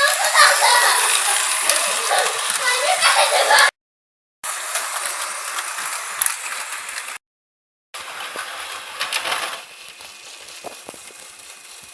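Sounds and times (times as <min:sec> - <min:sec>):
toy train rattling on track: 0:00.0 - 0:03.7, 0:04.5 - 0:07.2, 0:08.0 - 0:11.9.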